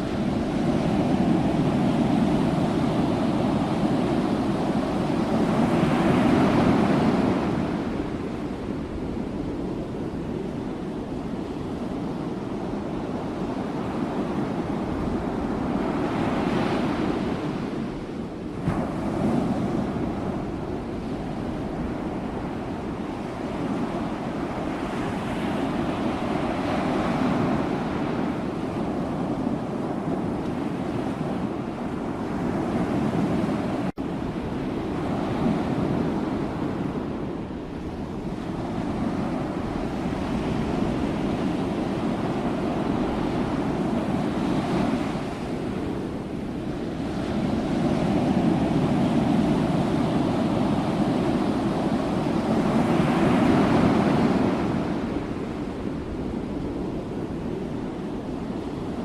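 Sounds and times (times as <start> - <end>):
sea waves breaking ashore: 0.0 - 59.0.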